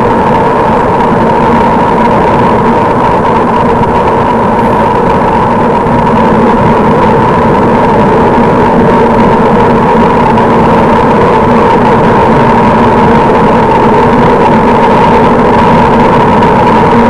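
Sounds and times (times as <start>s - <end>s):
constant hum: 0.0s - 17.0s
road noise: 0.0s - 17.0s
wind rushing: 0.0s - 17.0s.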